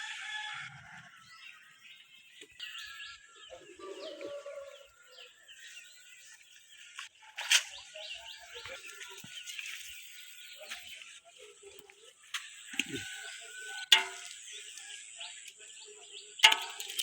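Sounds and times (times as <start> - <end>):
small birds chirping: 0.8 - 17.0.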